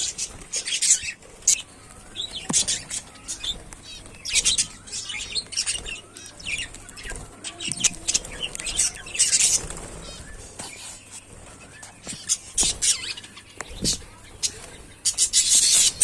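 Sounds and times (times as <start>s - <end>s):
budgerigars chattering: 0.0s - 10.8s, 11.6s - 16.0s.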